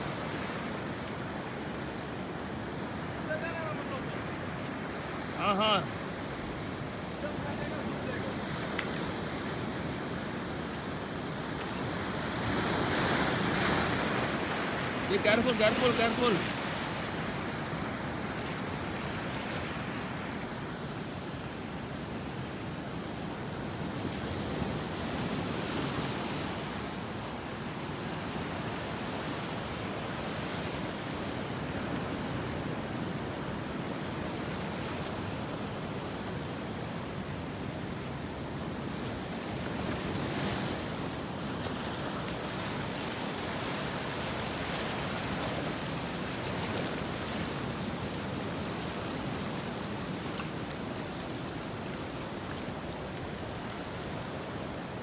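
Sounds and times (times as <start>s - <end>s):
sea surf washing against shore: 0.0s - 55.0s.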